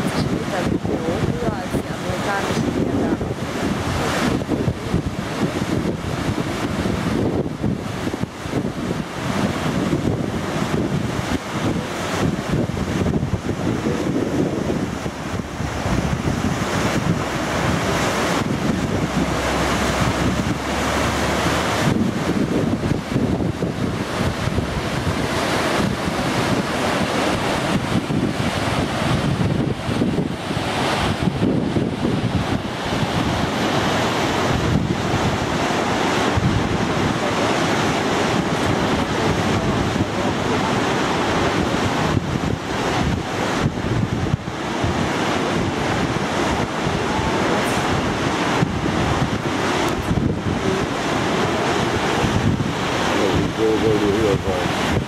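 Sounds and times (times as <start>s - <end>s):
waterfall rushing: 0.0s - 55.0s
wind buffeting microphone: 0.0s - 55.0s.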